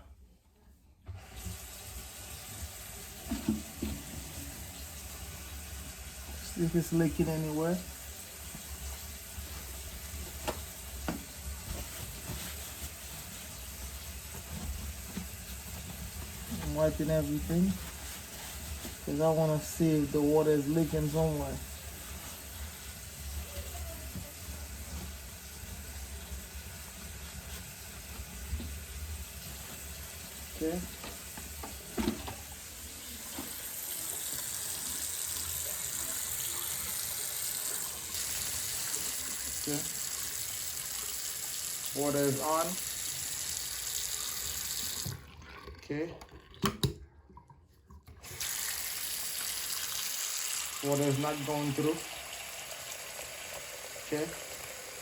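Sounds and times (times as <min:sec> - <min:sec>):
faucet running water into sink: 0:01.2 - 0:47.0, 0:48.2 - 0:55.0.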